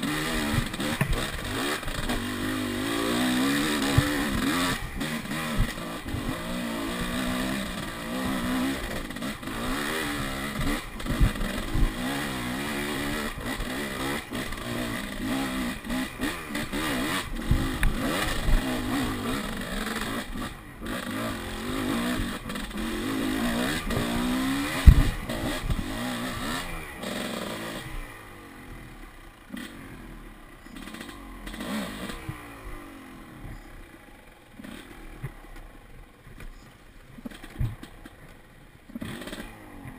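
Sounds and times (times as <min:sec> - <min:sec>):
dirt bike engine revving: 0:00.0 - 0:36.1, 0:38.9 - 0:39.9.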